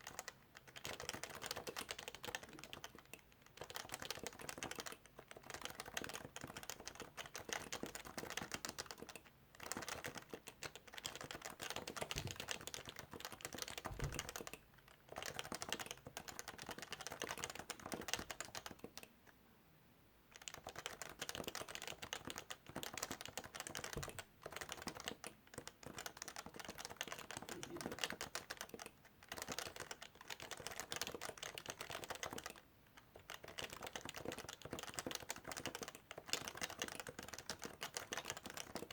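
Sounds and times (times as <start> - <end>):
rapid keyboard typing: 0.0 - 19.1, 20.3 - 38.9.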